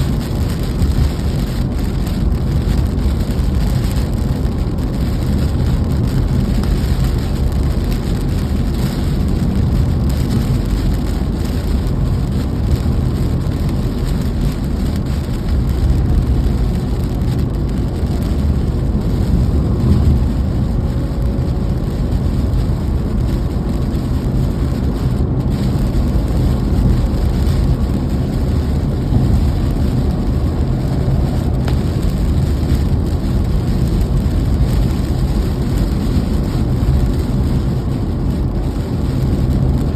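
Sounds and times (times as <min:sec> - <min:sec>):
low rumble: 0:00.0 - 0:39.9
steady rain: 0:00.0 - 0:39.9.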